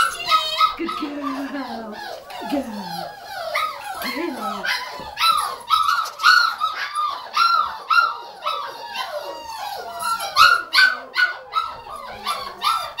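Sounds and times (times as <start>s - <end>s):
puppy yipping: 0.0s - 13.0s.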